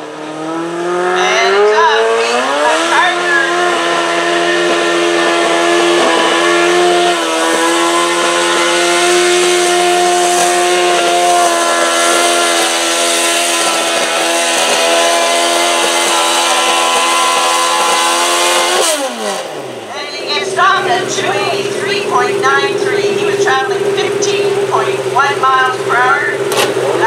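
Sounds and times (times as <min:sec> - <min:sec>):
tractor engine at full throttle: 0:00.0 - 0:27.0.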